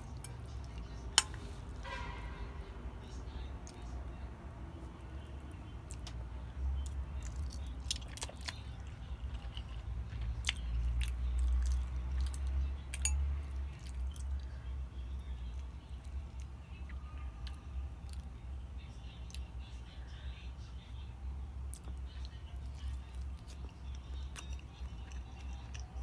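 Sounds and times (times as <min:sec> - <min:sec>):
chewing food: 0:00.0 - 0:01.8, 0:04.9 - 0:26.0.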